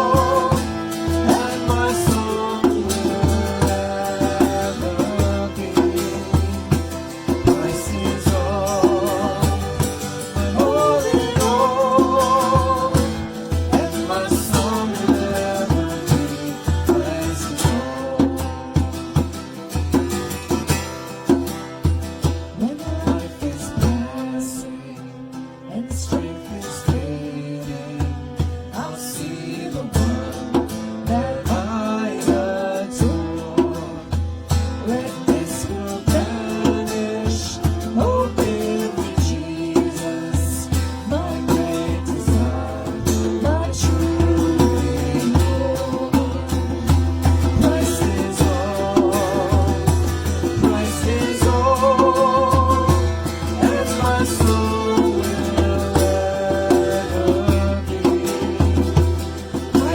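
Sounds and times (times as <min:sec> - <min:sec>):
person singing: 0:00.0 - 0:19.0, 0:22.6 - 0:34.2, 0:34.8 - 0:59.9
strummed guitar: 0:00.0 - 0:59.9.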